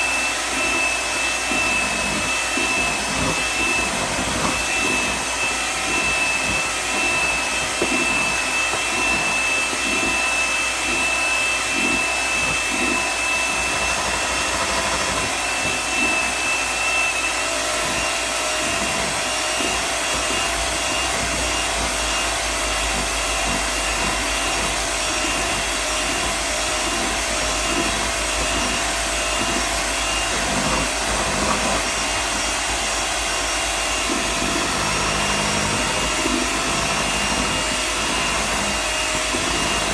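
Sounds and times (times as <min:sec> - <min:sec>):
electric hand mixer running: 0:00.0 - 0:39.9.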